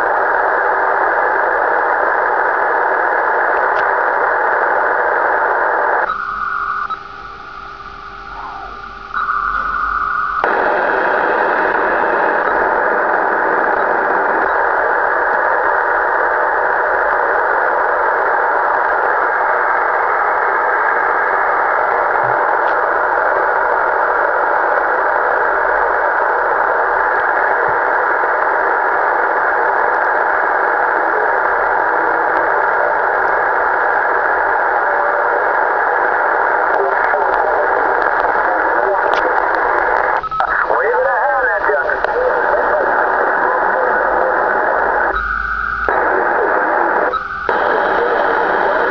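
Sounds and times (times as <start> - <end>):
radio static hiss: 0.0 - 48.9.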